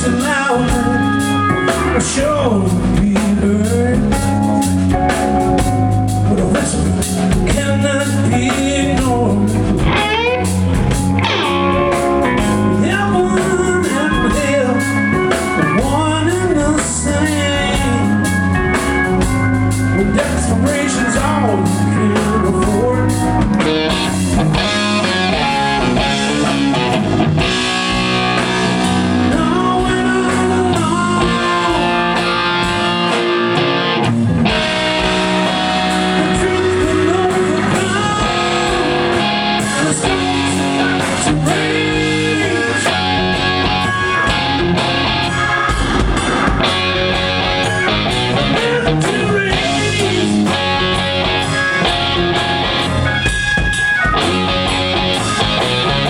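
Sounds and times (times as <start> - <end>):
electric guitar bent notes: 0.0 - 56.0
live rock band playing: 0.0 - 56.0.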